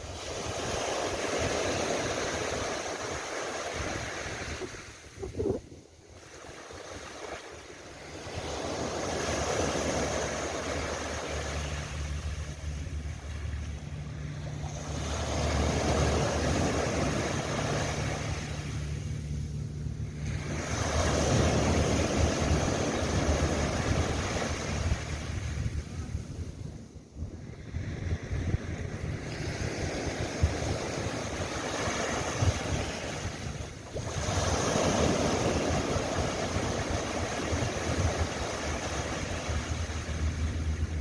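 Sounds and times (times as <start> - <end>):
waves breaking on a beach: 0.0 - 41.0
low rumble: 8.0 - 41.0.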